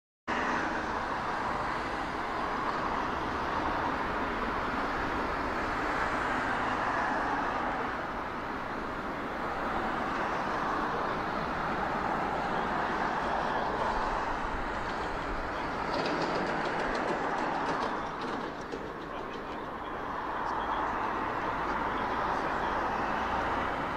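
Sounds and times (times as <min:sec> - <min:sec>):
jet engines roaring at takeoff: 0:00.3 - 0:23.9.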